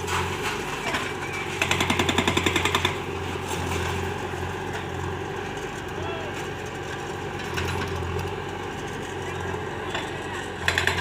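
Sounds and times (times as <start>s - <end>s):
heavy machinery engine running: 0.0s - 11.0s.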